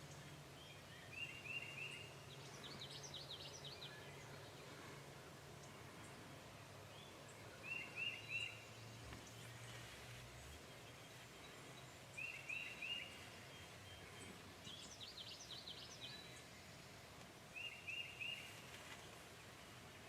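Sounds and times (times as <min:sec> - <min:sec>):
birds chirping: 0:00.0 - 0:20.0
faint steady hiss: 0:00.0 - 0:20.0.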